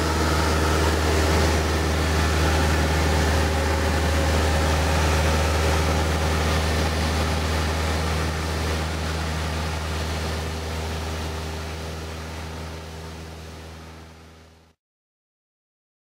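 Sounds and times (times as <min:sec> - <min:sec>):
rushing air: 0:00.0 - 0:13.4
plane engine droning in cabin: 0:00.0 - 0:14.8.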